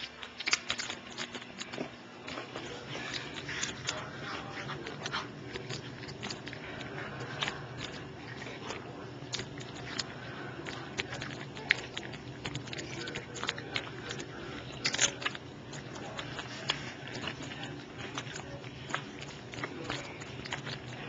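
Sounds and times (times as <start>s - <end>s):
cat crunching dry kibble: 0.0s - 21.0s.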